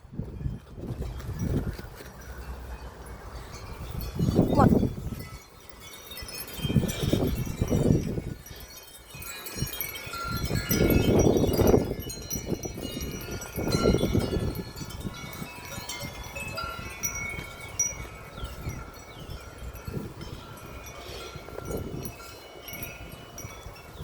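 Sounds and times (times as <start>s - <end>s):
strong wind gusts: 0.0s - 24.0s
wind chimes ringing: 0.3s - 24.0s.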